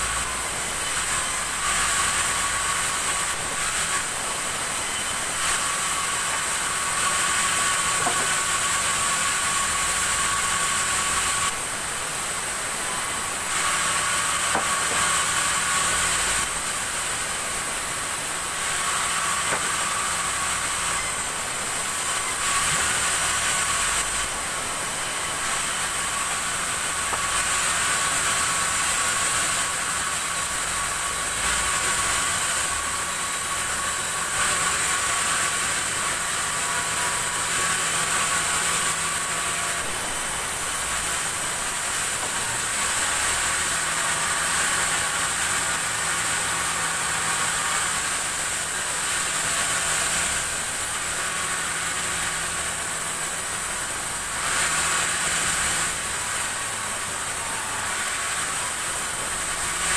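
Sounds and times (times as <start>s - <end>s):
band saw whining through logs: 0.0s - 59.9s.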